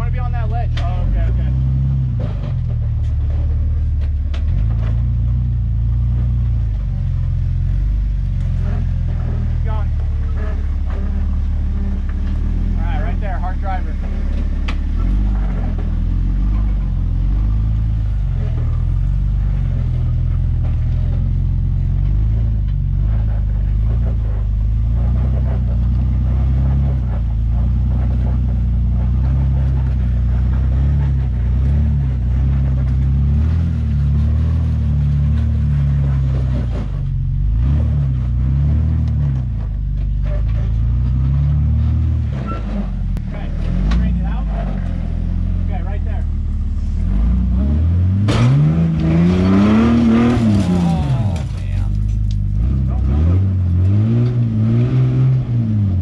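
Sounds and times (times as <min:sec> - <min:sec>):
engine running at low revs: 0:00.0 - 0:56.0.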